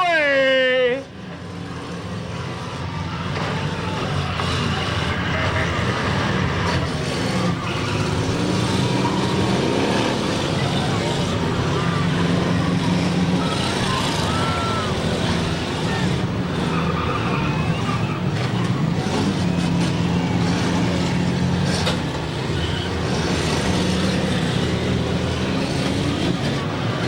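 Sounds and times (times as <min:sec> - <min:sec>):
car engines revving: 0:00.0 - 0:27.0
crowd voices: 0:00.0 - 0:27.0.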